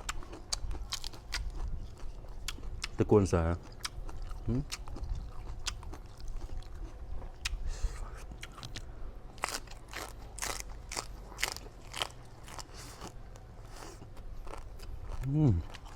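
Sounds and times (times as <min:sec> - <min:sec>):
crunching and chewing food: 0:00.0 - 0:15.9.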